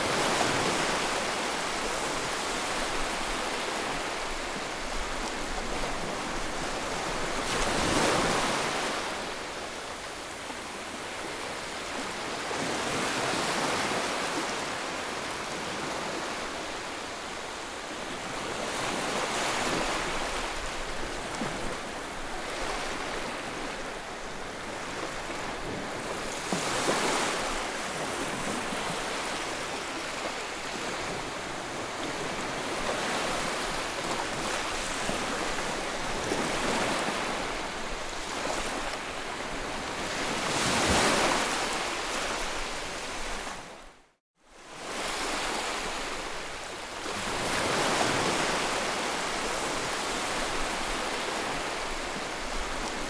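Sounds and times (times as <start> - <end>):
ocean waves breaking: 0.0 - 17.1, 18.1 - 43.8.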